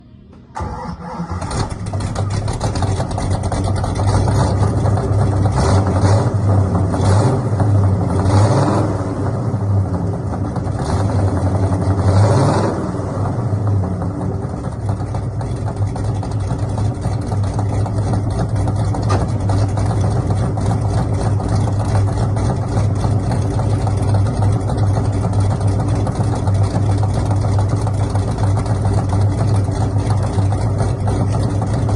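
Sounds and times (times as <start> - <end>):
car engine starting and idling: 0.0 - 31.9
car engine revving: 0.6 - 31.9.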